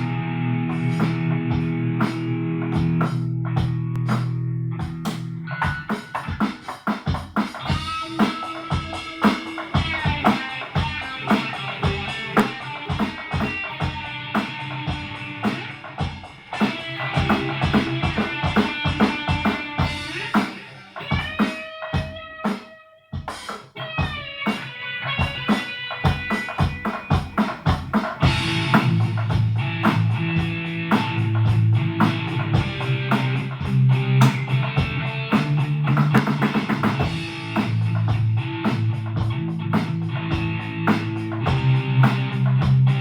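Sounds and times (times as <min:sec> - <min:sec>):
electric guitar playing rock: 0:00.0 - 0:43.0
drum kit hits: 0:00.8 - 0:22.2, 0:25.2 - 0:43.0.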